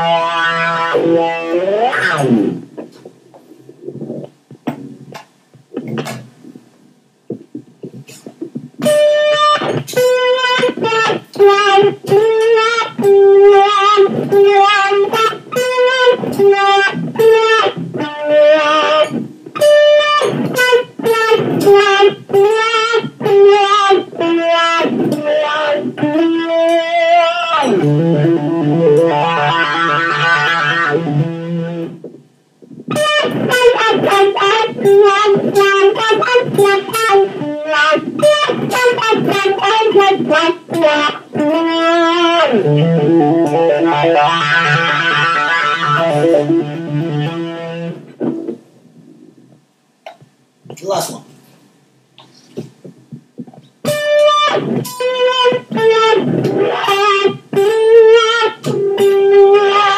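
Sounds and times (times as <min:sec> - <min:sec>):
electric guitar with wah: 0:00.0 - 0:06.6, 0:07.3 - 0:50.8, 0:52.2 - 0:59.9.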